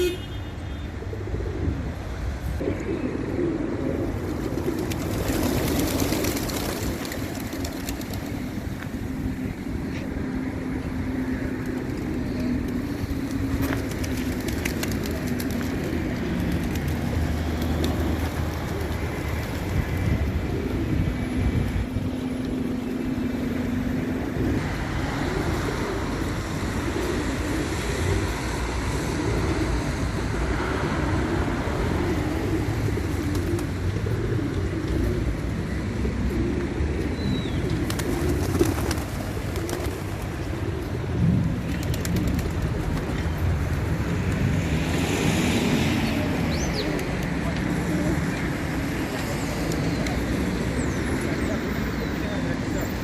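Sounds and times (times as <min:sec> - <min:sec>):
outdoor background noise: 0:00.0 - 0:53.0
pigeons cooing: 0:00.9 - 0:52.9.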